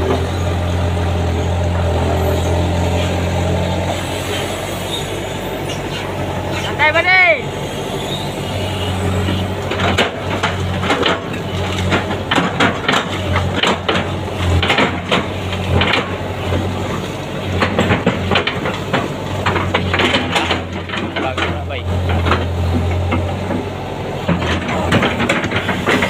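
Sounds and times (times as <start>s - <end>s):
excavator diesel engine humming: 0.0s - 26.0s.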